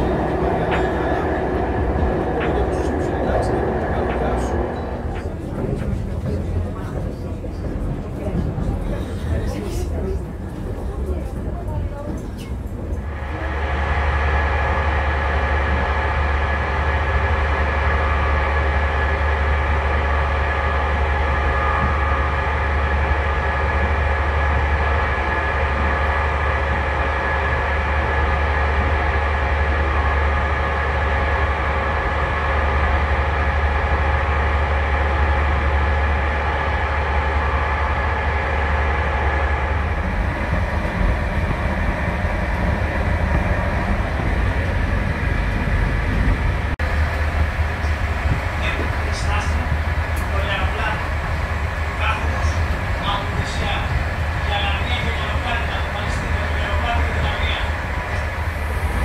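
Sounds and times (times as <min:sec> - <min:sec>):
constant whine: 0:00.0 - 0:59.0
train rumble inside carriage: 0:00.0 - 0:59.0.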